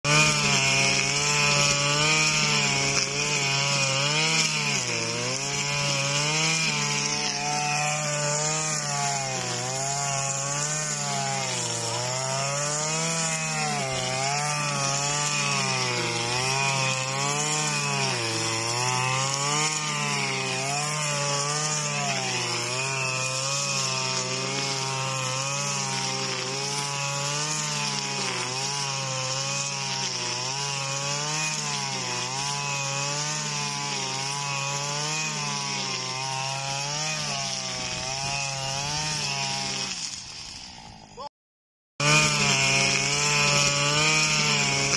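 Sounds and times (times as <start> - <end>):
brush cutter engine high revs: 0.0 - 41.3, 42.0 - 44.9
trimmer head cutting grass: 0.0 - 41.3, 42.0 - 44.9.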